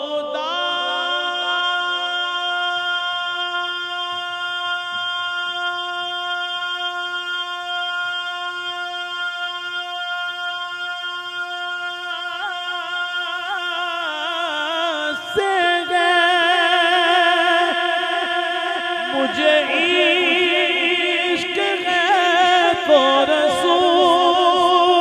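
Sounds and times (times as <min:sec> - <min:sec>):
man singing a long held note: 0:00.0 - 0:25.0.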